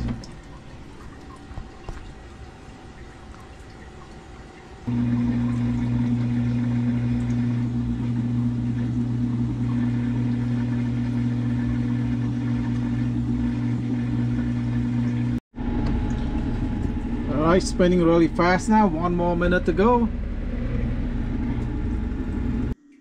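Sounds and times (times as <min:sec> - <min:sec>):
washing machine spinning: 0:00.0 - 0:22.8.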